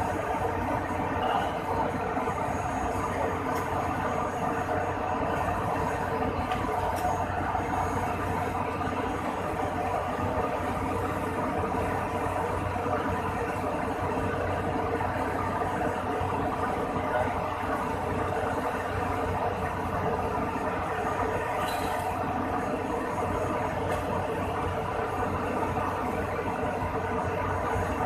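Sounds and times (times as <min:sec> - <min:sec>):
aircraft machinery running: 0:00.0 - 0:28.0.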